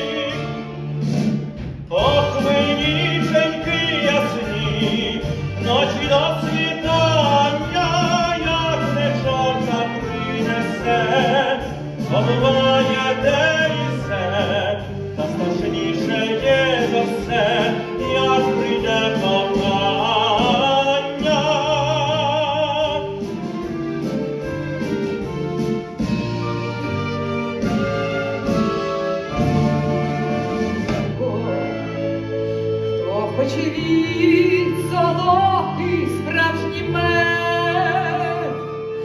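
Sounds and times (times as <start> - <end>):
man singing operatically: 0.0 - 0.9, 1.8 - 23.8, 30.0 - 39.0
orchestra: 0.0 - 39.0.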